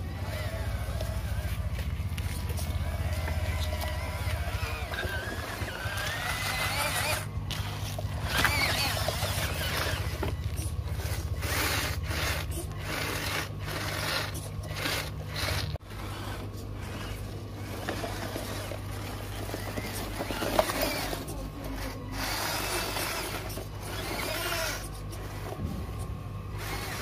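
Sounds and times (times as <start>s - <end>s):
small electric motor humming: 0.0s - 27.0s
tyres crunching over mud and stones: 0.0s - 27.0s.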